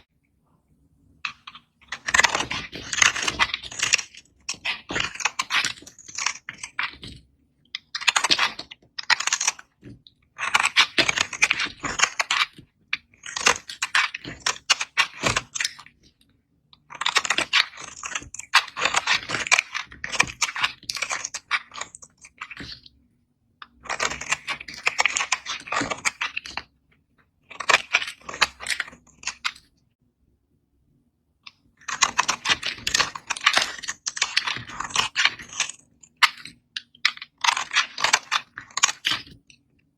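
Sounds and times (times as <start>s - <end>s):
knife crunching through soap: 1.3s - 7.2s, 7.8s - 16.1s, 16.8s - 22.9s, 23.6s - 26.7s, 27.5s - 29.6s, 31.8s - 39.6s.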